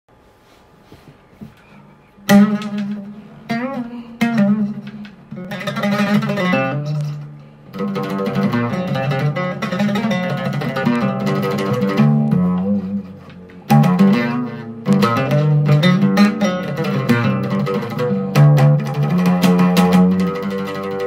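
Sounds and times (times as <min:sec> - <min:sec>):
oud plucked melody: 0:02.1 - 0:21.0.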